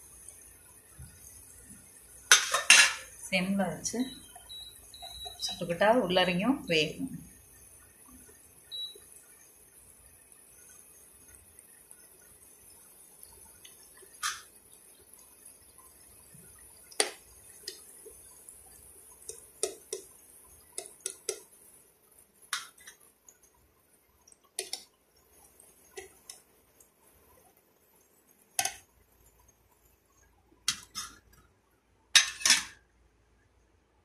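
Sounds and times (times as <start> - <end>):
oil sizzling: 0.0 - 33.3.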